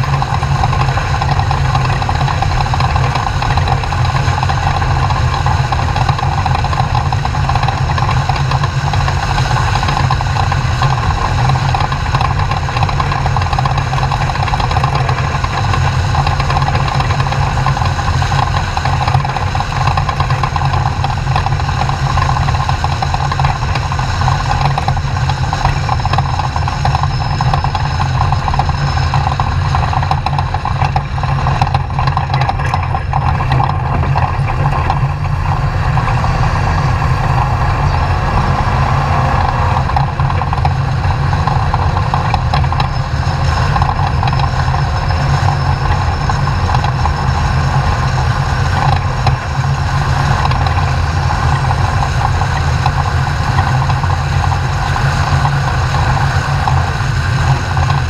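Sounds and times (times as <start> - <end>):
truck engine running loud: 0.0 - 58.0.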